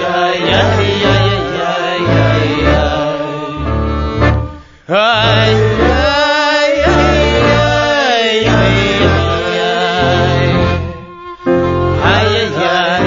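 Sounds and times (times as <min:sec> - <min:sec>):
folk-punk band playing: 0:00.0 - 0:13.0.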